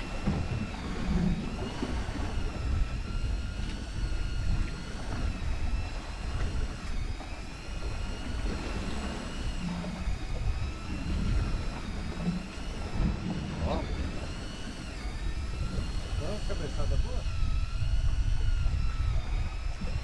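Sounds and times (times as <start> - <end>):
motor whine: 0.0 - 20.0
wind rumbling on microphone: 0.0 - 20.0.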